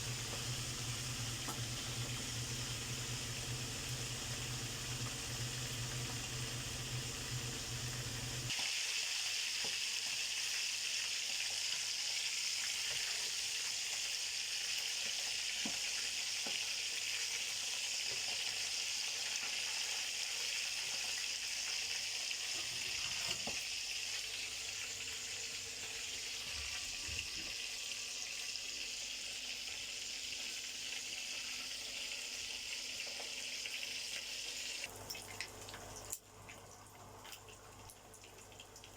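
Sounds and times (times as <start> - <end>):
meat sizzling in hot oil: 0.0 - 36.2.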